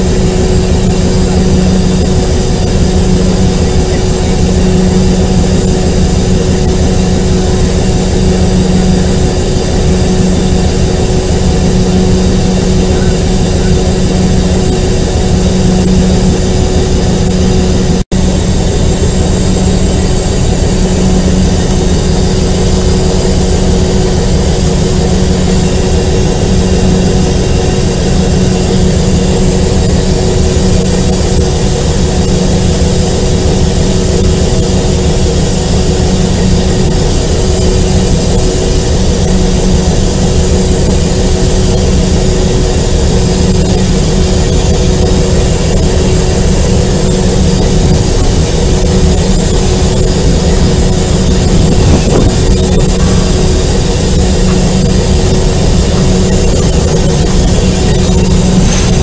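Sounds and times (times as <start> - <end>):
diesel locomotive engine droning: 0.0 - 59.0.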